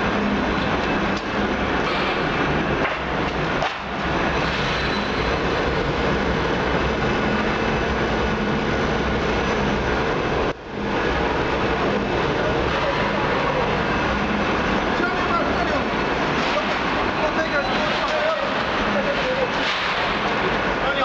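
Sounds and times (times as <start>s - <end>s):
machinery running: 0.0s - 21.0s.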